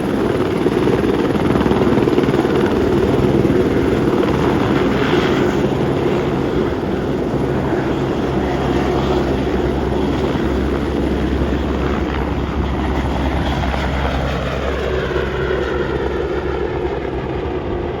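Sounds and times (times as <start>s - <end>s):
helicopter engine and rotor drone: 0.0s - 18.0s.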